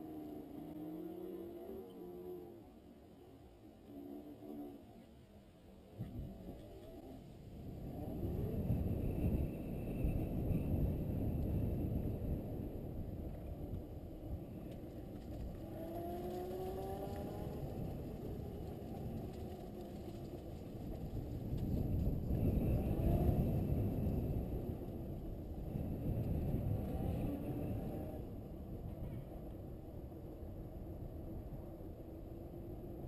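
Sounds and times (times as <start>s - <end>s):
faint rising whines: 0.0s - 33.0s
low wind rumble: 0.0s - 33.0s.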